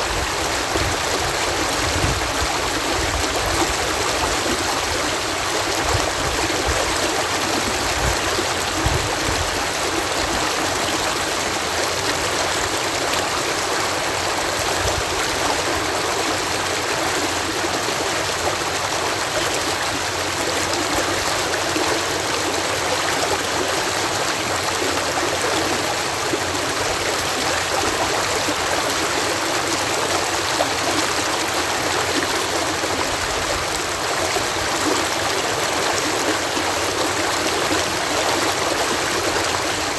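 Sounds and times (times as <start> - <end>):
water rushing through lock: 0.0 - 39.9.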